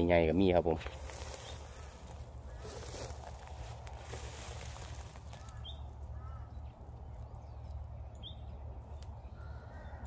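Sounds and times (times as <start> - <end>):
lower bird chirps: 1.1 - 10.0.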